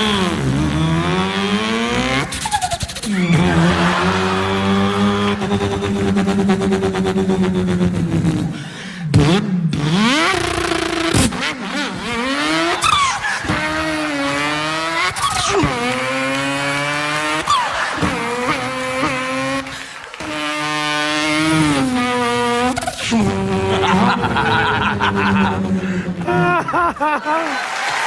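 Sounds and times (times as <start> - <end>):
person imitating car engine: 0.0 - 27.6.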